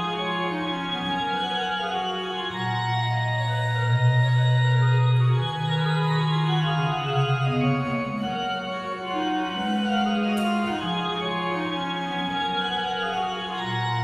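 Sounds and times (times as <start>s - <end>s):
pipe organ playing: 0.0s - 14.0s.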